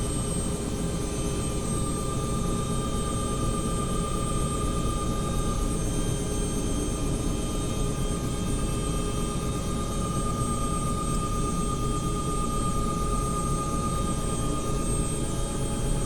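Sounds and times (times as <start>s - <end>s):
helicopter rotor rumble: 0.0s - 16.0s
turbine whine: 0.0s - 16.0s.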